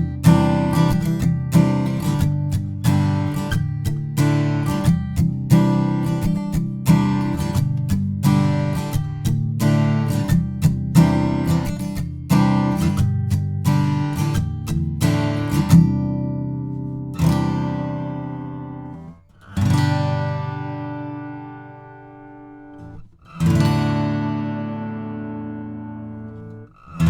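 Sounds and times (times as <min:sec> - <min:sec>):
acoustic guitar chords ringing: 0:00.0 - 0:27.0
acoustic guitar strumming: 0:00.0 - 0:27.0.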